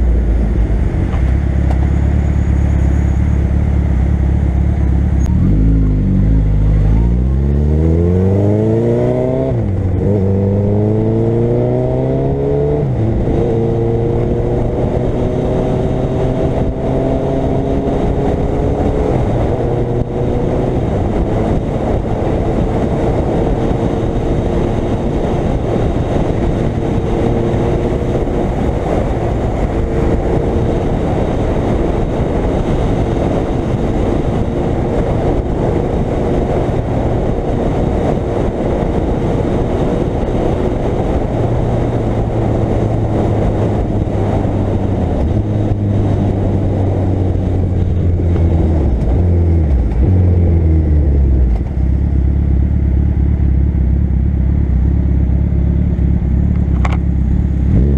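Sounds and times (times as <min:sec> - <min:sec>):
motorcycle engine cruising: 0:00.0 - 0:57.9
wind rush: 0:04.8 - 0:52.5.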